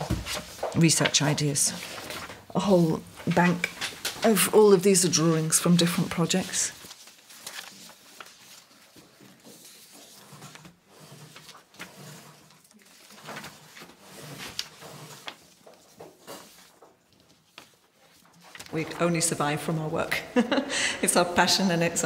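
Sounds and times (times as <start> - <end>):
paper rustling and sliding: 0.0 - 19.8.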